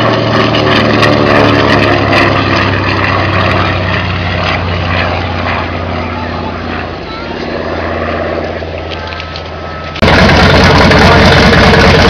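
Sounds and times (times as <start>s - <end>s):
propeller aircraft droning past: 0.0s - 12.0s.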